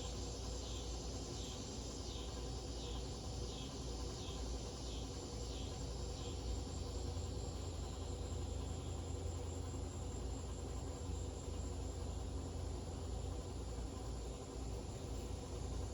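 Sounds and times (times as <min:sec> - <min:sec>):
ceiling fan motor hum: 0:00.0 - 0:15.9.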